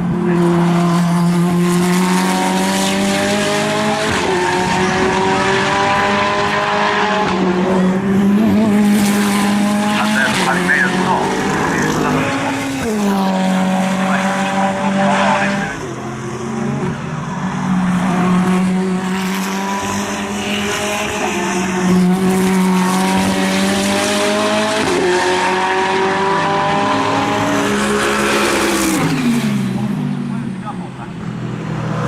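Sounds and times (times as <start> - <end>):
other engines: 0.0 - 32.0.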